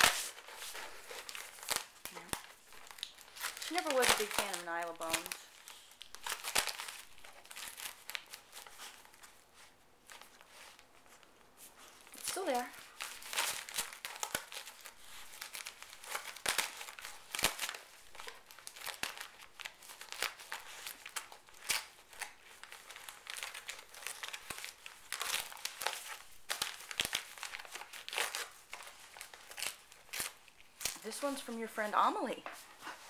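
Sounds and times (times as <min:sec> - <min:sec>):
paper tearing: 0:00.0 - 0:09.2, 0:12.1 - 0:31.5
foil gift wrap crinkling: 0:00.0 - 0:33.0.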